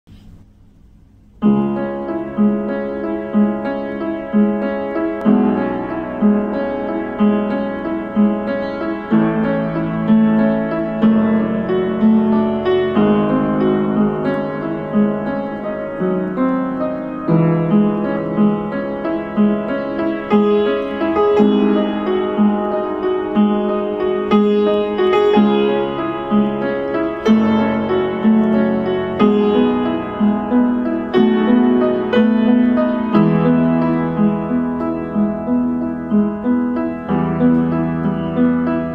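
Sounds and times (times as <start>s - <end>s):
slow solo piano: 0.1s - 38.9s.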